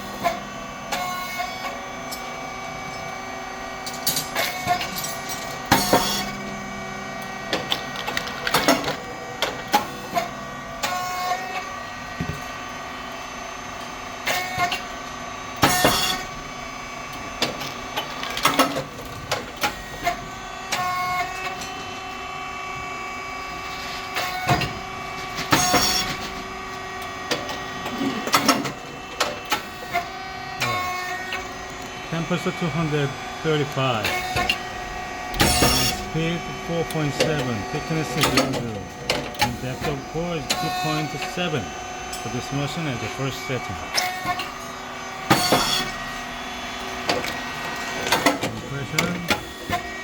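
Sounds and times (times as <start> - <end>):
pump hum: 0.0 - 50.0.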